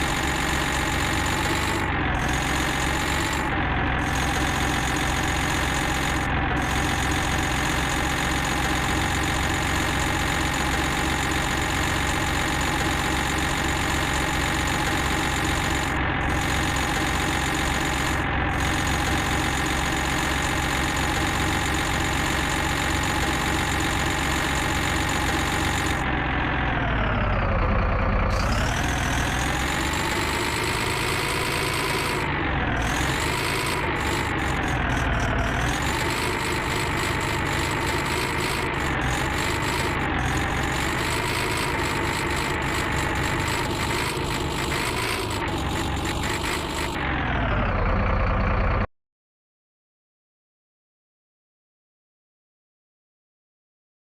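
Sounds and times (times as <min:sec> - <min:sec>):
heavy vehicle engine idling: 0:00.0 - 0:48.9.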